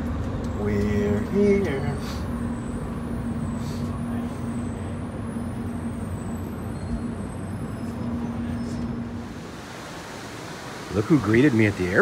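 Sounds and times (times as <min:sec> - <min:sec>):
electric train hum and rumble: 0:00.0 - 0:12.0.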